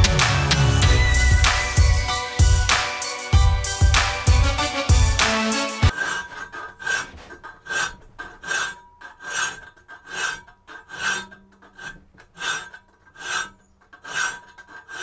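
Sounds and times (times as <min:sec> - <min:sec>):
file rasping on steel: 0:00.8 - 0:15.0.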